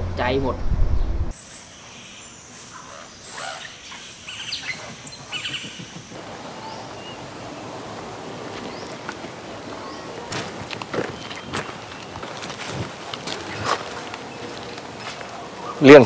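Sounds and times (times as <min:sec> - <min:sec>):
steady background hiss: 0:00.0 - 0:16.0
birds chirping: 0:01.1 - 0:16.0.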